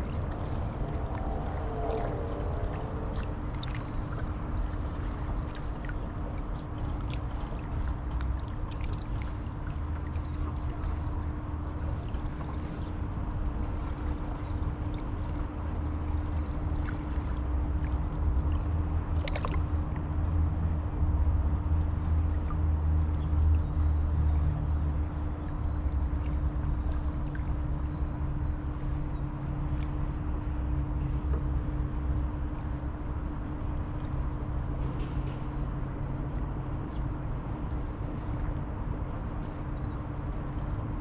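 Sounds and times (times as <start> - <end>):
constant hum: 0.0 - 41.0
river water flowing and lapping: 0.0 - 41.0
steady low rumble: 0.0 - 41.0.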